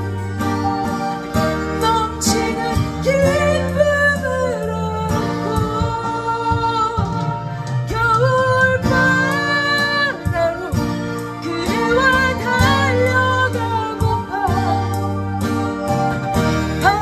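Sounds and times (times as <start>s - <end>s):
acoustic guitar: 0.0s - 17.0s
woman singing a slow ballad: 1.3s - 17.0s.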